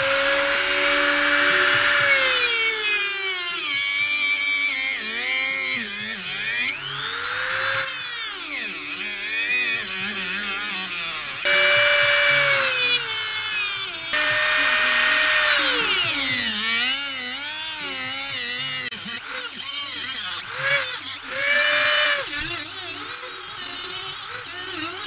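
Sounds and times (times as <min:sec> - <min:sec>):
rotary tool whining: 0:00.0 - 0:25.0.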